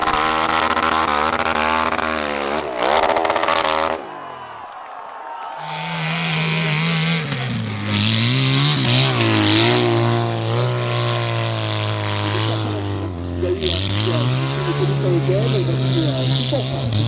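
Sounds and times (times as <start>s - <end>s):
motorcycle engine running hard: 0.0s - 4.1s, 5.6s - 17.0s.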